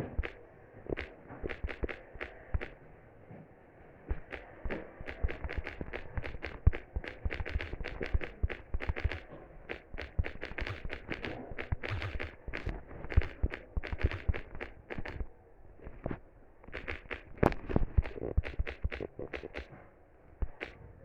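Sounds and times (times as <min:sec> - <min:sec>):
sharp clicks and knocks: 0:00.0 - 0:02.8, 0:04.1 - 0:19.8, 0:20.4 - 0:20.8.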